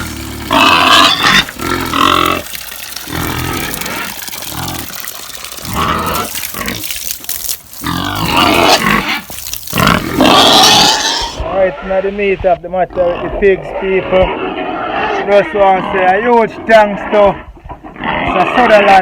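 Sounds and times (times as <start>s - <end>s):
pigs grunting and squealing: 0.0s - 12.0s, 12.8s - 19.0s.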